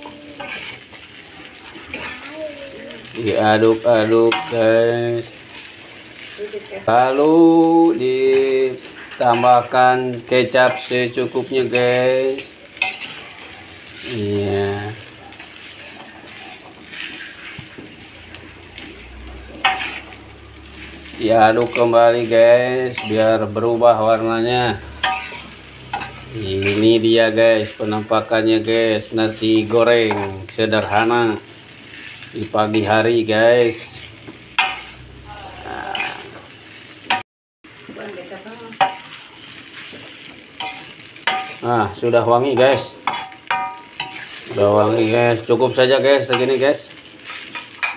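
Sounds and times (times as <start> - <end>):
metal spatula scraping pan: 0.0 - 2.3, 3.0 - 6.6, 7.9 - 14.2, 15.0 - 27.7, 29.5 - 33.0, 33.6 - 37.2, 38.8 - 45.4, 47.2 - 47.9
rice sizzling in a wok: 0.0 - 47.9.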